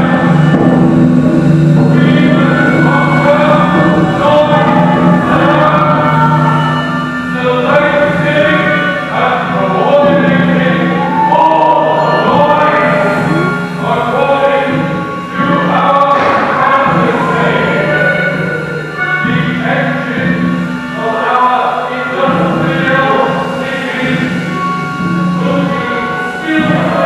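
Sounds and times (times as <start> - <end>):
choir singing: 1.9 - 27.0.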